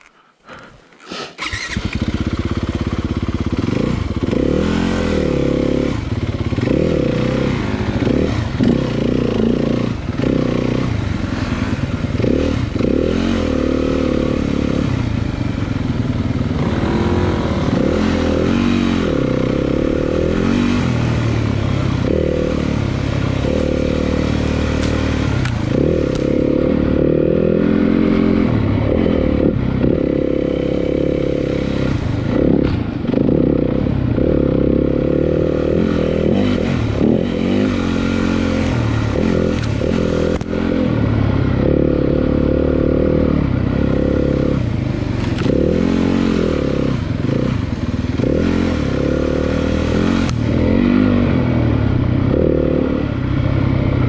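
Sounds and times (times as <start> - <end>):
dirt bike engine revving: 0.2 - 54.0.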